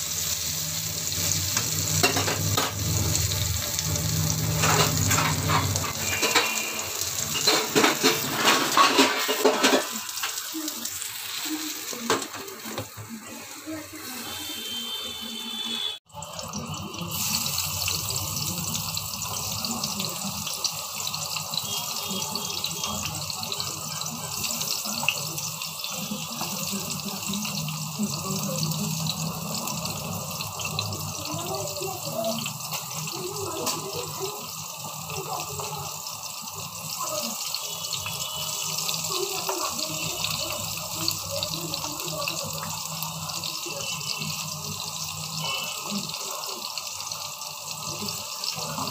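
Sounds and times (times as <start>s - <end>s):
vegetables sizzling in hot oil: 0.0s - 48.9s.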